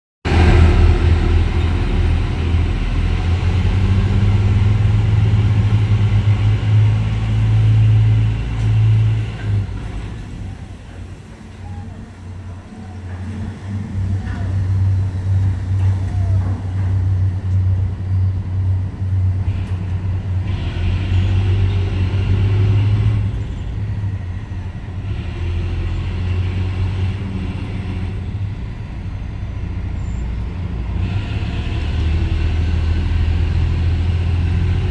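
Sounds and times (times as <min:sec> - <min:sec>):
heavy engine droning: 0:00.2 - 0:34.9.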